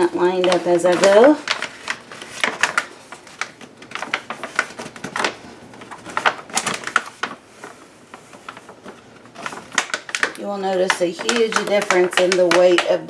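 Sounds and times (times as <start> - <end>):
contact paper crinkling: 0.0 - 13.0.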